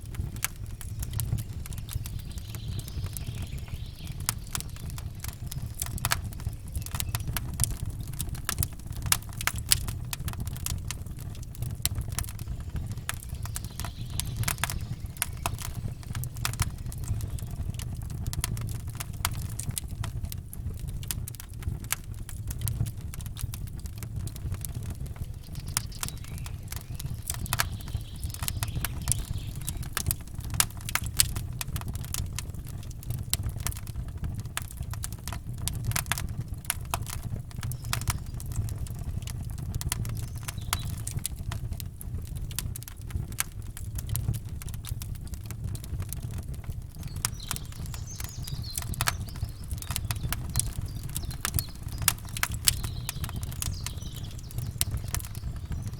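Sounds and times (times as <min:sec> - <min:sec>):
birdsong chirps: 0:00.0 - 0:19.8, 0:24.2 - 0:32.8, 0:35.1 - 0:41.5, 0:45.7 - 0:55.9
campfire crackling and popping: 0:00.0 - 0:55.9.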